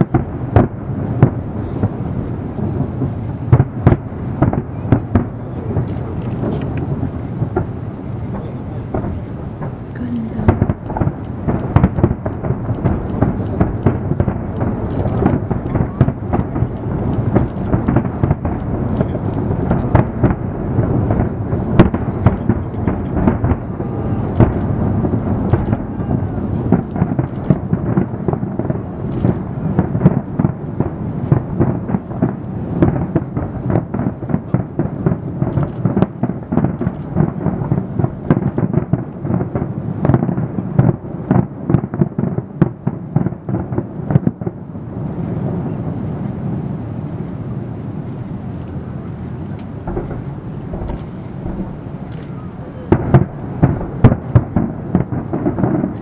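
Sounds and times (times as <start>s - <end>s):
fireworks bangs and crackles: 0.0s - 56.0s
fireworks rolling rumble: 0.0s - 56.0s.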